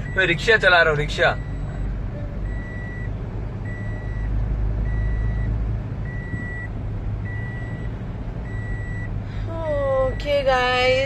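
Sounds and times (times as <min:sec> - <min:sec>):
car warning chime beeping: 0:00.0 - 0:11.0
low car cabin rumble: 0:00.0 - 0:11.0.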